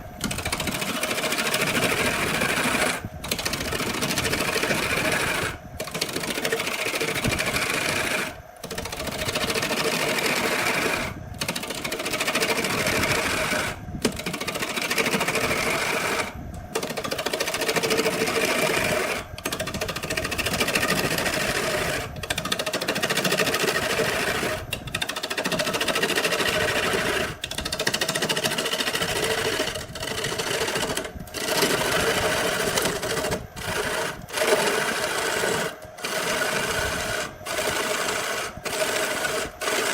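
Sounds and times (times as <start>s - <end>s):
small electric motor running: 0.0s - 39.9s.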